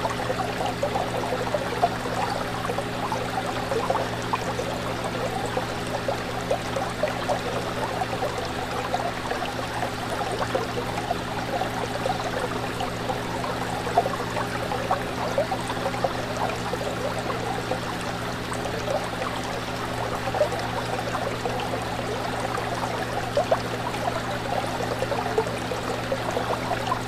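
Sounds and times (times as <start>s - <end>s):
fish tank water bubbling: 0.0s - 27.0s.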